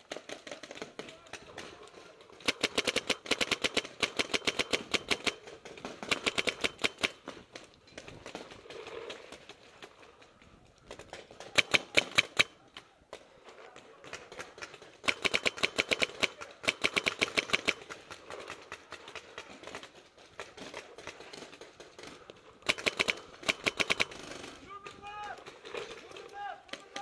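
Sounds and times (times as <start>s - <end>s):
paintball markers firing: 0.0s - 9.4s, 10.8s - 26.0s, 26.6s - 27.0s.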